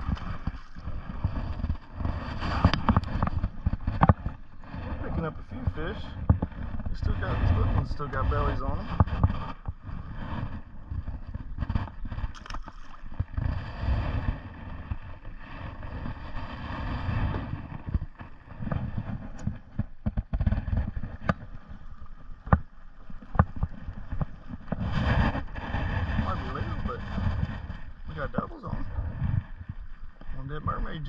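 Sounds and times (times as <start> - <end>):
outboard motor humming: 0.0 - 31.0
wind buffeting microphone: 0.0 - 31.0.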